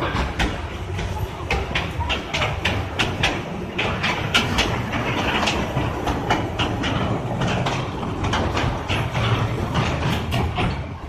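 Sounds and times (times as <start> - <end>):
train wheels clattering on rails: 0.0 - 11.0.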